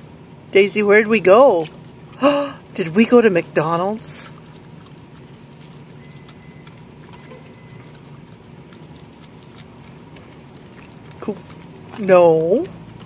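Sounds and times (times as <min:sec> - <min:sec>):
low car interior hum: 0:00.0 - 0:13.0
dog licking: 0:01.7 - 0:13.0.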